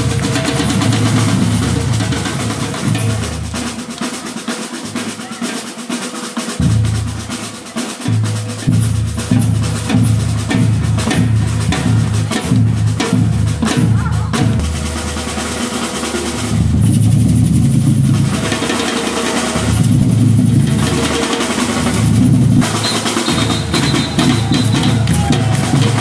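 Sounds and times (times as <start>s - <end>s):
snare drum rolls: 0.0s - 26.0s.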